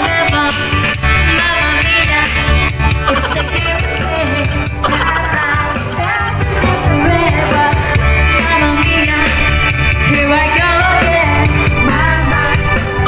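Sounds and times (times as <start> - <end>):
song with singing over a band: 0.0 - 13.0.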